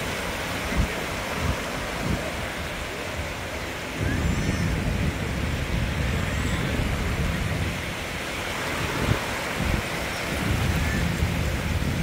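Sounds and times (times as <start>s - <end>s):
waves washing over sand: 0.0s - 12.0s
wind rumble on microphone: 0.0s - 12.0s.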